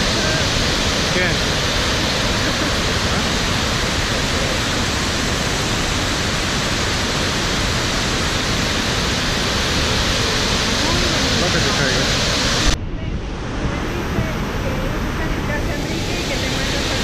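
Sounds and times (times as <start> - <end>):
waterfall rushing: 0.0 - 12.8, 13.4 - 17.0.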